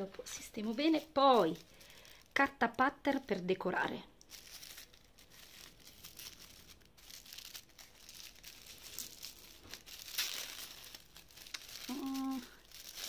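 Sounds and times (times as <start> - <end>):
tissue paper crinkling: 0.0 - 2.5, 4.2 - 13.0.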